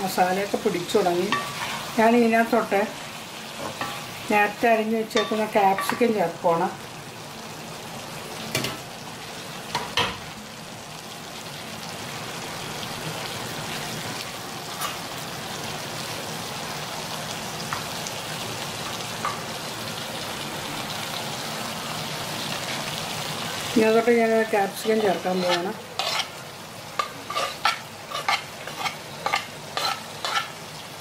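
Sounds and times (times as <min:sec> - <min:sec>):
curry sizzling in a pan: 0:00.0 - 0:31.0.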